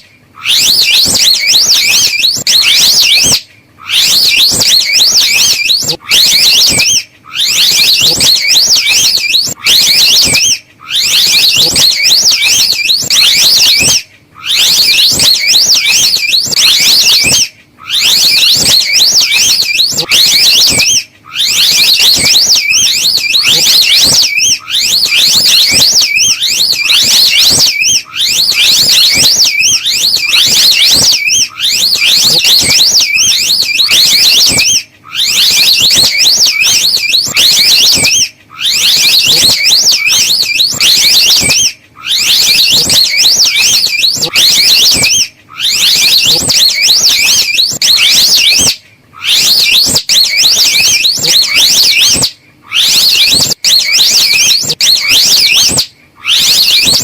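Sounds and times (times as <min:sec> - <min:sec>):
high wavering animal trill: 0:00.0 - 0:57.0.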